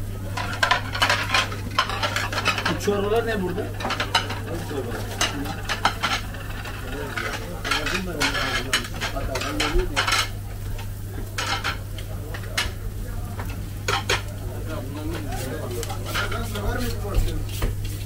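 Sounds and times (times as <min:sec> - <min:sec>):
faint background chatter: 0:00.0 - 0:18.0
steady low hum: 0:00.0 - 0:18.0
plates and utensils clinking: 0:00.3 - 0:12.8, 0:13.4 - 0:14.3, 0:15.0 - 0:17.7.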